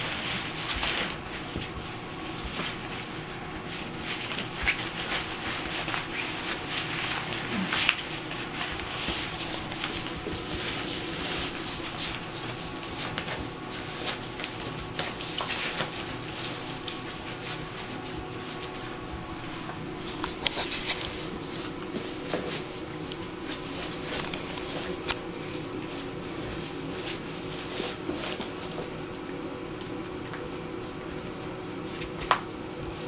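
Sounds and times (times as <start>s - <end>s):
faint steady hum: 0.0s - 33.0s
puppy paws tapping on tiles: 0.0s - 33.0s.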